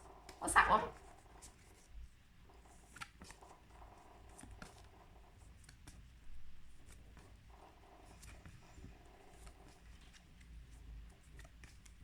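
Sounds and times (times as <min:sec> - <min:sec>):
paper flashcards rustling and clicking: 0:00.3 - 0:12.0.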